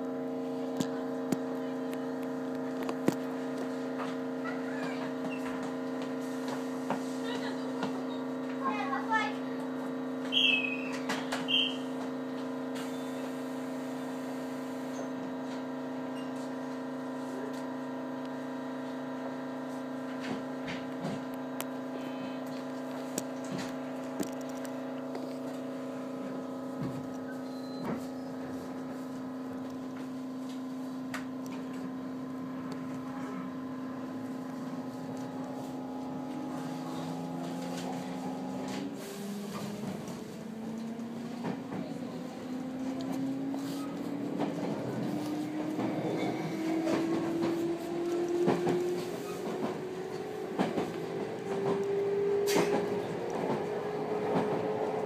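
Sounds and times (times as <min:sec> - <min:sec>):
electric train hum: 0:00.0 - 0:55.0.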